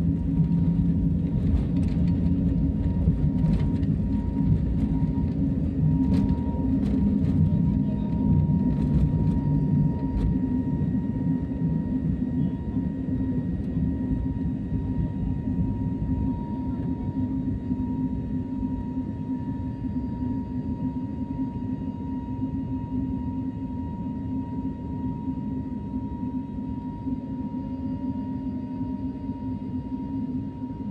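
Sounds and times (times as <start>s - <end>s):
airplane engine rumble and whine: 0.0s - 30.9s.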